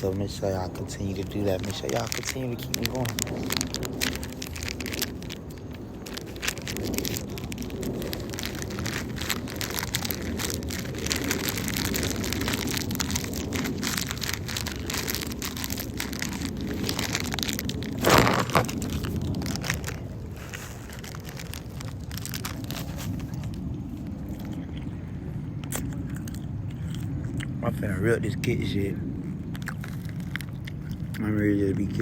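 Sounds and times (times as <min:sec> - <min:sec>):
wind on microphone: 0:00.0 - 0:25.6.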